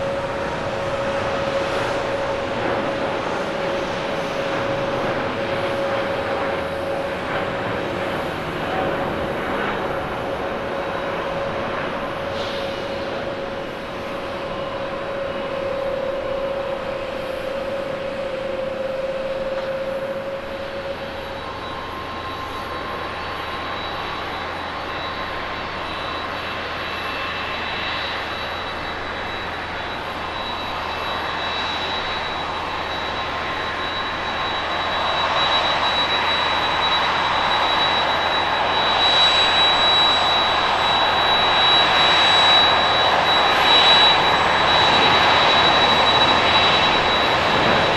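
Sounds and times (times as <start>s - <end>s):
jet engines high whine: 0.0s - 47.9s
jet engines steady drone: 0.0s - 47.9s.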